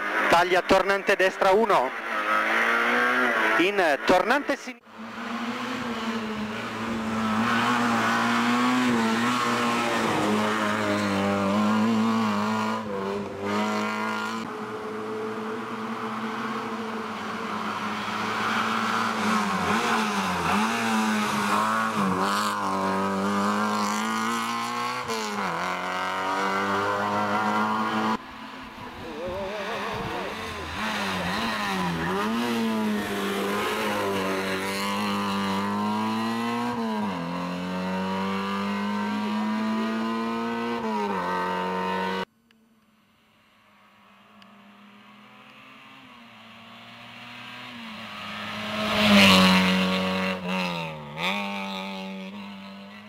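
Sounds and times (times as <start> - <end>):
rally car engine revving: 0.0 - 42.3, 45.1 - 53.0.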